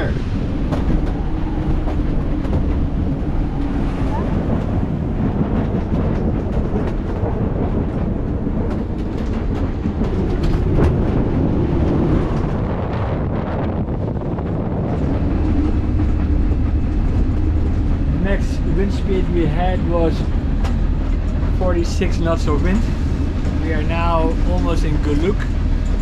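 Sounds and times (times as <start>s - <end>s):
knocks and rattles: 0.0s - 12.8s, 14.4s - 26.0s
wind rumbling on microphone: 0.0s - 26.0s.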